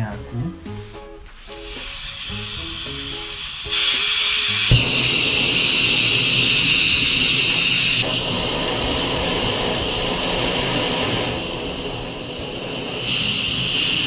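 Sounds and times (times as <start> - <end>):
camping stove hissing: 0.5 - 14.0
stove igniting whoomp: 0.6 - 14.0
burner roaring: 1.4 - 14.0.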